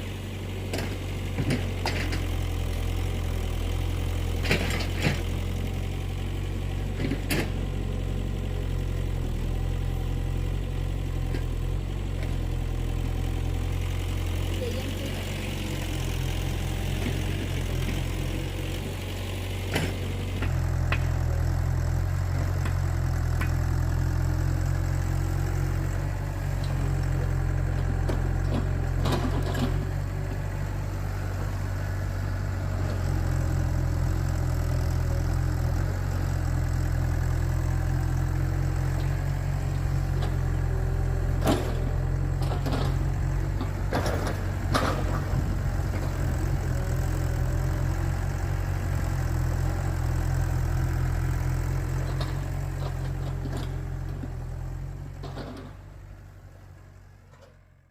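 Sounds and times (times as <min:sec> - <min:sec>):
engine running steadily: 0:00.0 - 0:57.9.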